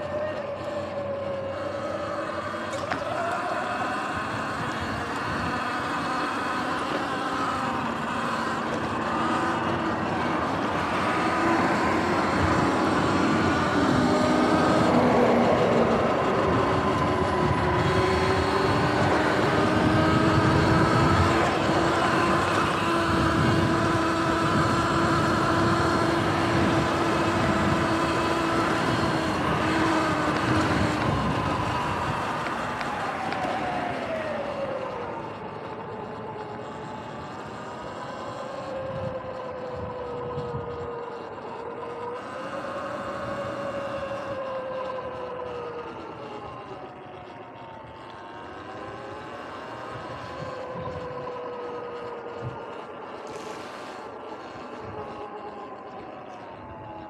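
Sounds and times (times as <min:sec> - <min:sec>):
electric motor whine: 0:00.0 - 0:57.0
tyre and wind noise: 0:00.0 - 0:57.0.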